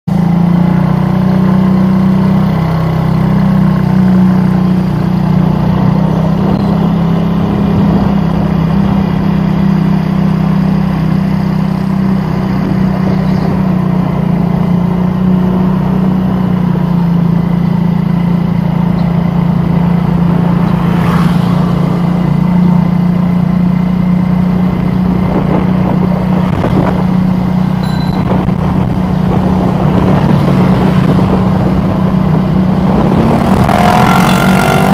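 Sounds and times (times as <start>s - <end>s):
traffic noise: 0.1s - 34.9s
vehicle engine droning: 0.1s - 34.9s.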